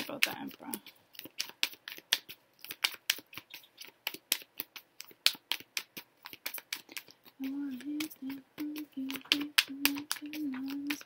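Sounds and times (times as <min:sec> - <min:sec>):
sharp clicks and taps: 0:00.0 - 0:11.0.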